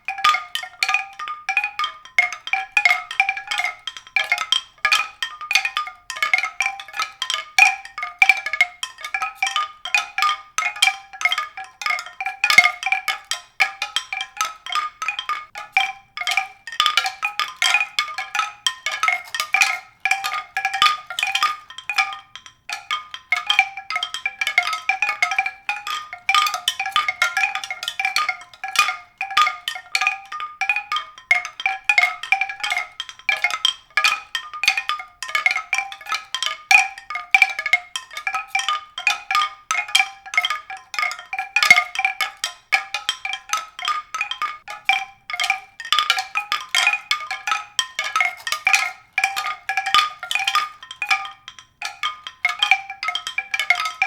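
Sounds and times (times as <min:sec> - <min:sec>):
mallet percussion melody: 0:00.0 - 0:54.0.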